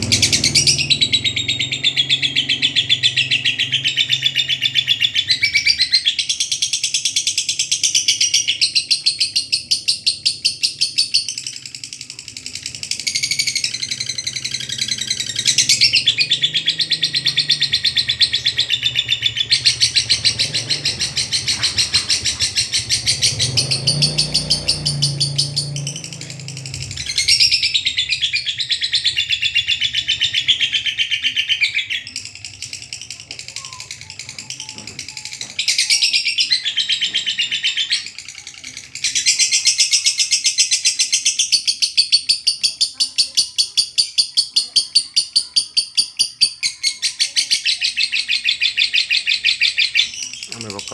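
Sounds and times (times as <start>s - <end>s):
lovebird rapid chirping: 0.0s - 50.9s.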